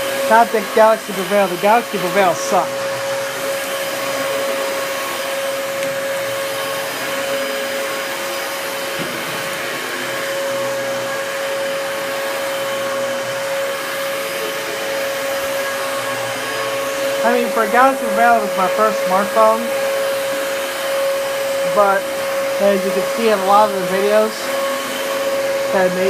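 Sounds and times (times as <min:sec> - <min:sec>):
vacuum cleaner running over carpet: 0:00.0 - 0:26.0.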